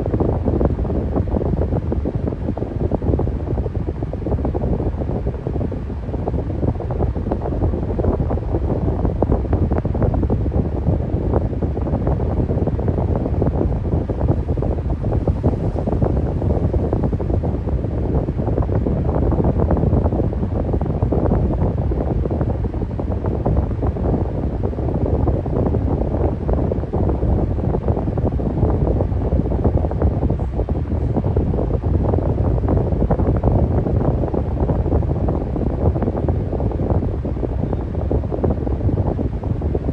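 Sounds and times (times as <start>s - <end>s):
electric fan air rush: 0.0s - 39.9s
wind buffeting microphone: 0.0s - 39.9s.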